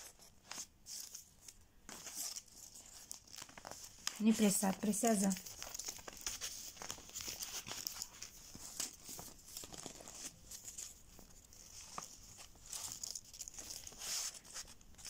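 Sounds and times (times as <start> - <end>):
paper strips rustling: 0.0 - 15.0.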